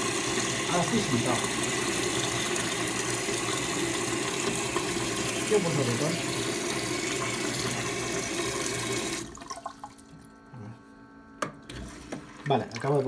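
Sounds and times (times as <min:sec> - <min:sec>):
water rushing into toilet bowl: 0:00.0 - 0:10.2, 0:11.7 - 0:13.0.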